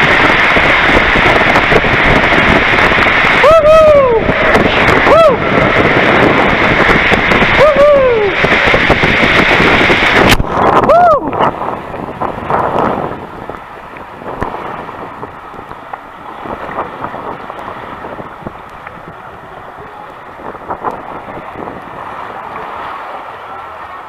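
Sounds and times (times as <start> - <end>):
water rushing and splashing: 0.0 - 24.0
wind buffeting microphone: 0.0 - 24.0.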